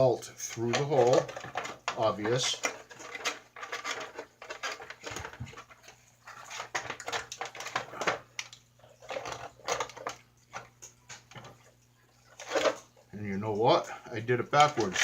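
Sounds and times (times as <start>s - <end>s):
plastic toy parts clicking and rattling: 0.0s - 13.0s, 14.3s - 15.0s.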